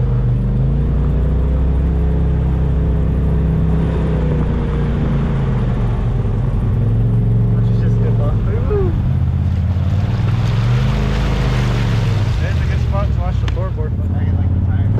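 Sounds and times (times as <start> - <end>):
off-road vehicle engine running: 0.0 - 14.9.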